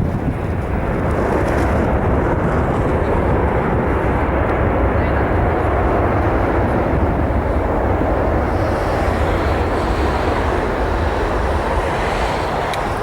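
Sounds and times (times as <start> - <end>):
jet airliner engines rumbling: 0.0 - 13.0.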